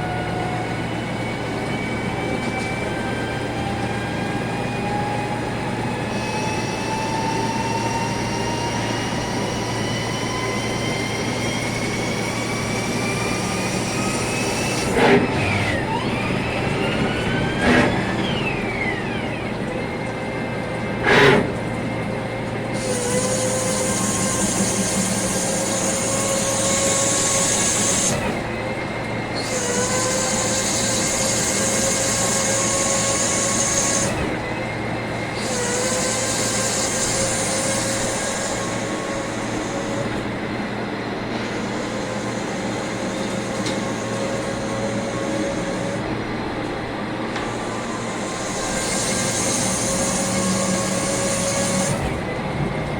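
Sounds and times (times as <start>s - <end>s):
lathe machine hum with whining: 0.0s - 52.9s.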